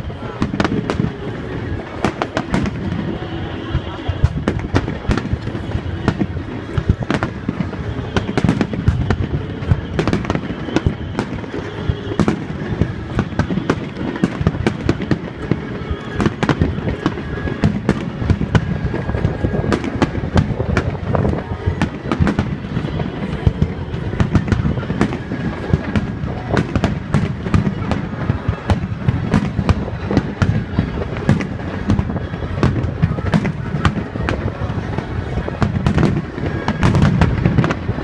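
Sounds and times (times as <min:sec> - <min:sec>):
fireworks bangs and crackles: 0:00.0 - 0:38.0
wind buffeting microphone: 0:00.0 - 0:38.0.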